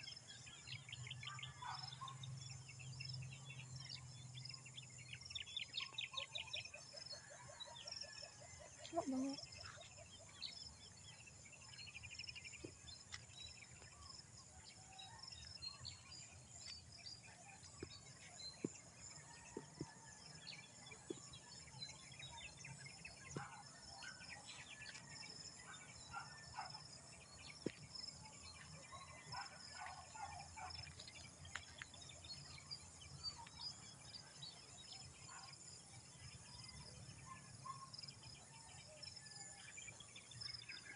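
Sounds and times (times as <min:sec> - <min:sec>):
bird chirps: 0:00.0 - 0:35.6.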